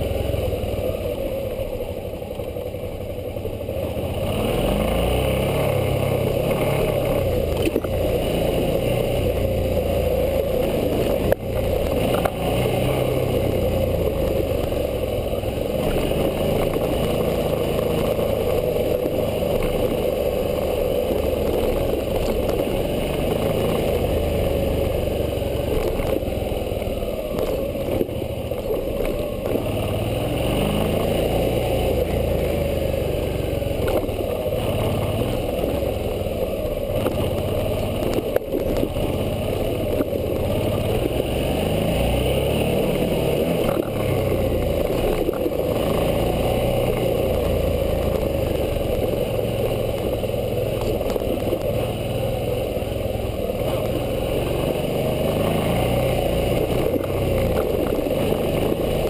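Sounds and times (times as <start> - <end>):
motorcycle engine revving: 0.0 - 59.0
clatter and knocks over bumps: 5.0 - 32.6, 33.2 - 52.0, 52.6 - 59.0.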